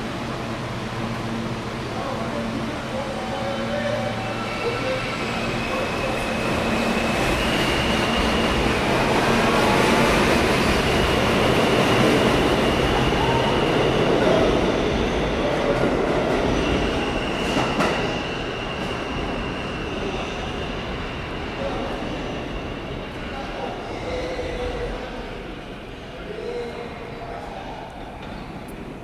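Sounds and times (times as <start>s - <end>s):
subway train wheels rumbling: 0.0s - 29.0s.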